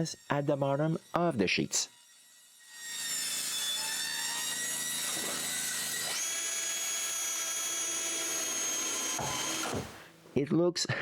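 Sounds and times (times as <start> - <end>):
power tool cutting metal sheets: 0.8 - 10.1.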